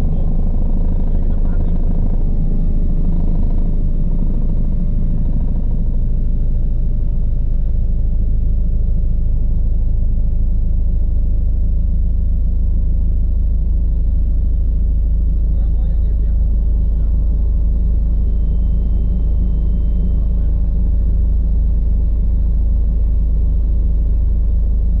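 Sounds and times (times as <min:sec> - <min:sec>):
helicopter rumble: 0:00.0 - 0:25.0.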